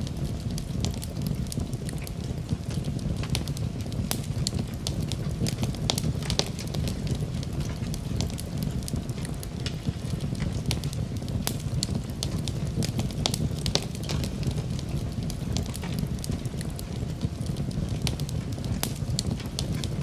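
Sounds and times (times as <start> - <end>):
low rumble of flames: 0.0 - 20.0
wood crackling and popping: 0.0 - 20.0.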